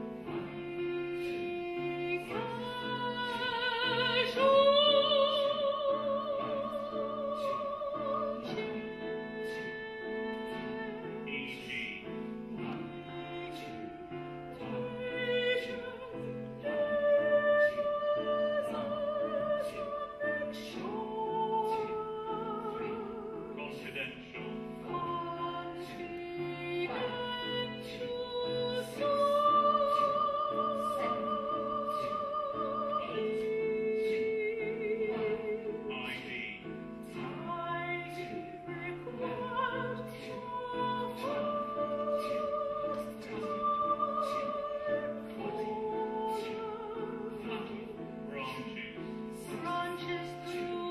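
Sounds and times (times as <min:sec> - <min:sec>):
woman singing opera: 0:00.0 - 0:23.6, 0:24.6 - 0:50.9
classical accompaniment: 0:00.0 - 0:50.9.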